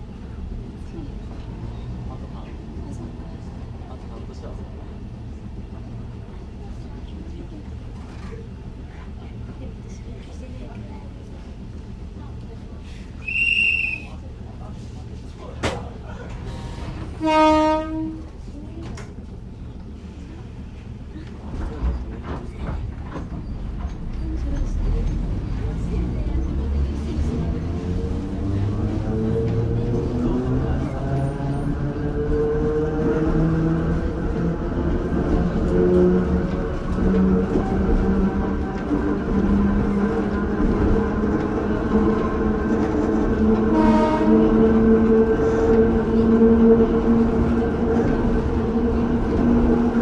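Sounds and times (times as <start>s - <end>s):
electric railcar rumble: 0.0s - 50.0s.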